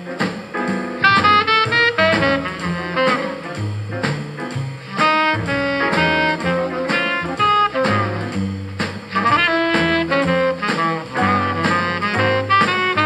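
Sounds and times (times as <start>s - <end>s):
bass line: 0.0s - 13.0s
instrumental jazz: 0.0s - 13.0s.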